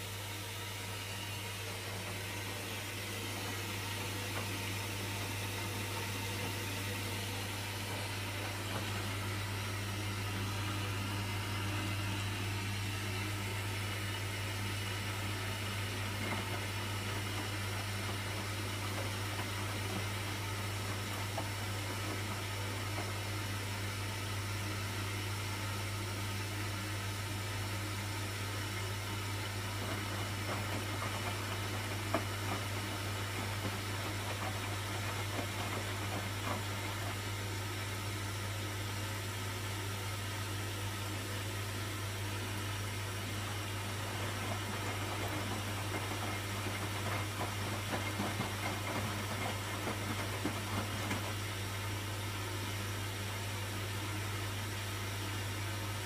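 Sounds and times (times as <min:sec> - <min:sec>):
washing machine tumbling laundry: 0:00.0 - 0:56.0.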